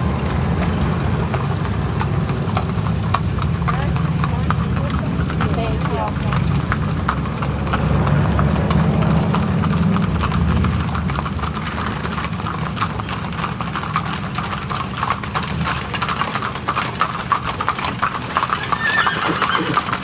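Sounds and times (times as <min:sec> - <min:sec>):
hooves clip-clopping on pavement: 0:00.0 - 0:20.0.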